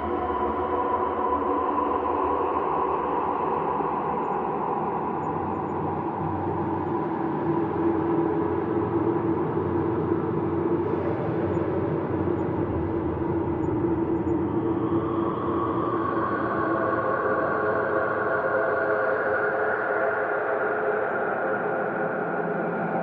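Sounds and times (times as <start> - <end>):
ambient drone with sustained tones: 0.0 - 23.0.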